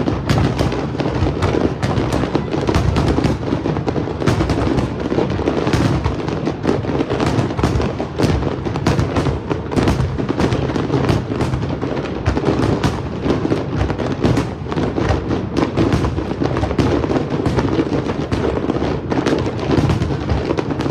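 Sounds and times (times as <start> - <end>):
fireworks bangs and crackles: 0.0 - 20.9.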